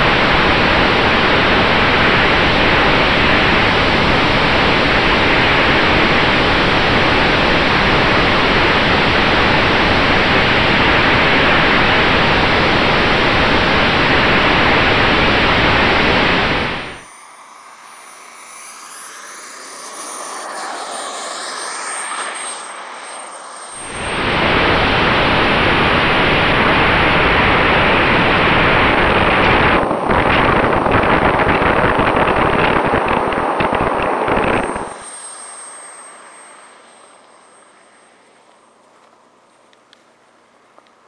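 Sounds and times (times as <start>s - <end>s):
wind noise: 0.0s - 38.4s
model jet engine whine: 0.0s - 41.0s.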